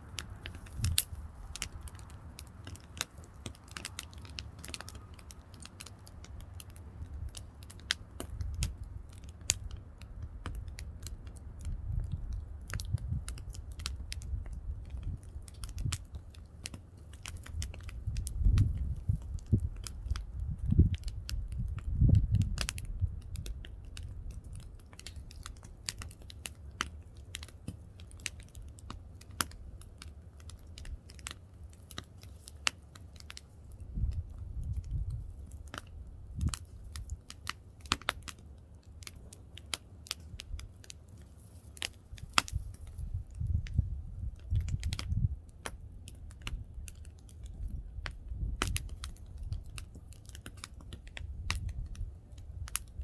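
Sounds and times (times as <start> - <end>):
fire crackling and popping: 0.0 - 53.0
low fire rumble: 0.0 - 53.0.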